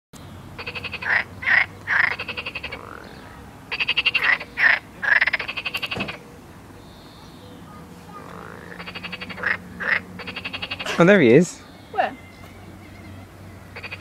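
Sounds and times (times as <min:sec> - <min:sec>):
frogs croaking: 0:00.4 - 0:14.0.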